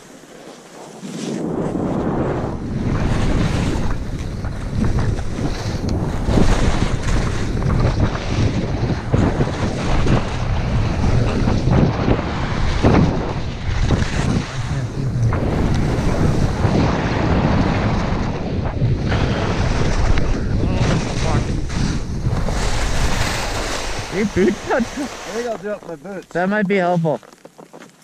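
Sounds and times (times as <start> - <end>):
skis carving on packed snow: 0.0 - 28.0
wind buffeting microphone: 1.3 - 26.7.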